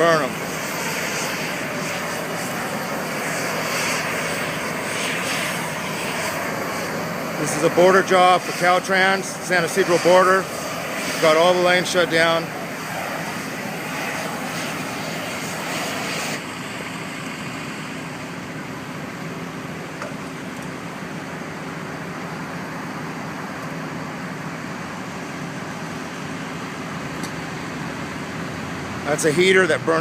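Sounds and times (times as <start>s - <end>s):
propane heater hissing: 0.0s - 30.0s.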